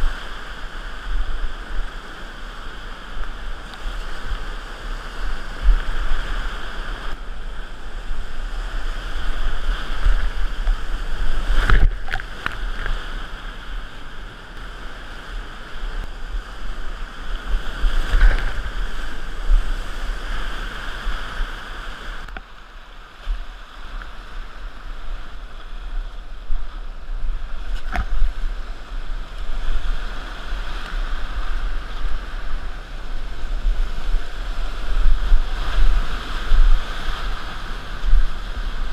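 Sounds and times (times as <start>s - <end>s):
water splashing on kayak and paddle: 0.0s - 38.9s.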